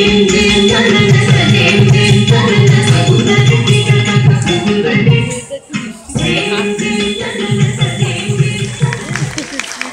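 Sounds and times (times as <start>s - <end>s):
classical dance music: 0.0s - 9.9s.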